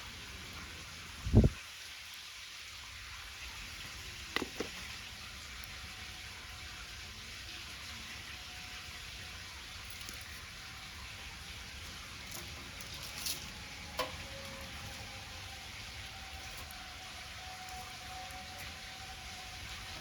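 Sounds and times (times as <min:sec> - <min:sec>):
bonfire crackling: 0:02.0 - 0:20.0.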